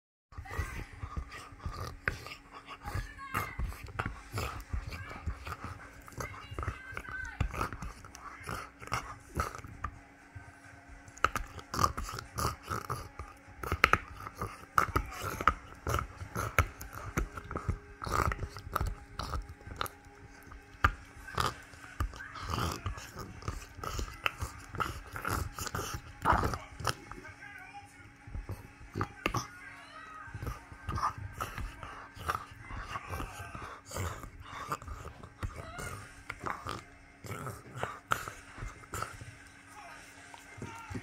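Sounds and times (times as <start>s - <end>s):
dog chewing a bone: 0.3s - 41.0s.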